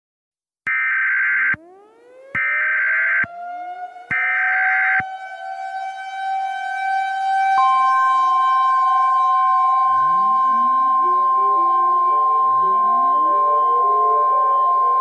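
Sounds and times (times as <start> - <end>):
siren wails: 0.7 - 15.0.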